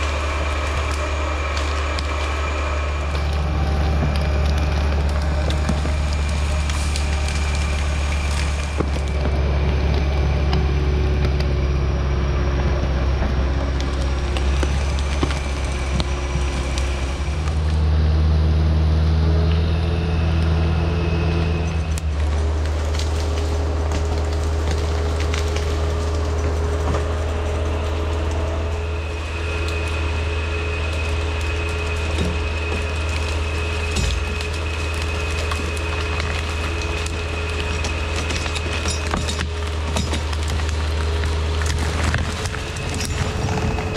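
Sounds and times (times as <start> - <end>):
wood and branches snapping: 0.0 - 11.8, 12.6 - 17.9, 21.3 - 43.9
diesel engine running: 0.0 - 43.9.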